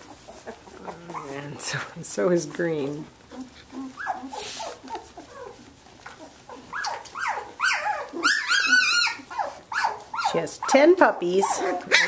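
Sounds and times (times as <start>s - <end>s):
puppies squealing and whimpering: 0.0s - 1.8s, 3.2s - 12.0s.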